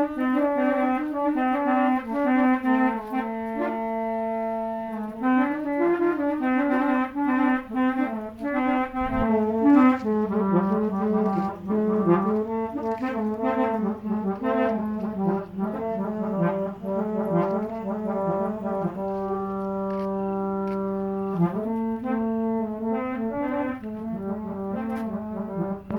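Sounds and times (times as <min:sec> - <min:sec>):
held horn drone: 0:00.0 - 0:25.9
vehicle horns playing a tune: 0:00.0 - 0:25.9.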